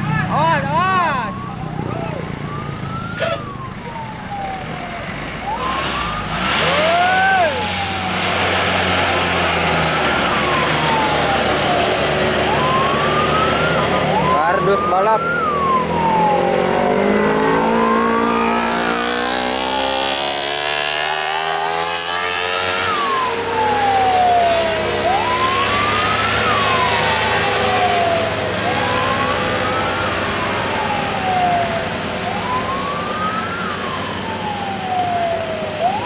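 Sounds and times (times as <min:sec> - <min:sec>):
passing road traffic: 0:00.0 - 0:36.0
siren wailing: 0:00.0 - 0:36.0
vehicle engine accelerating: 0:00.0 - 0:36.0.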